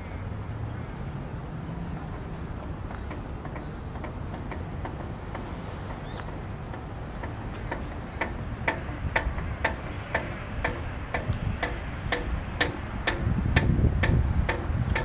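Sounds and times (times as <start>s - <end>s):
wind rumble on microphone: 0.0s - 15.0s
sharp clicks: 2.9s - 15.0s.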